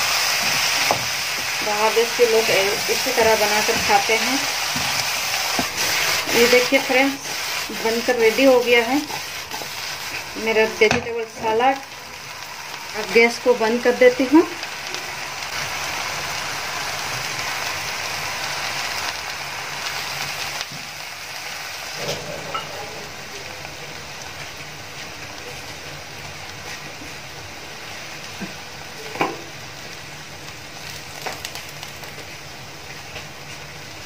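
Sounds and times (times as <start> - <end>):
vegetables sizzling in a pan: 0.0 - 34.0.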